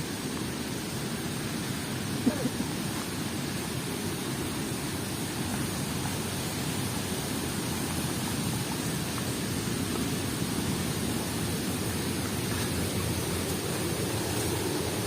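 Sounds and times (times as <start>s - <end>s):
rushing noise with low rumble: 0.0s - 15.0s.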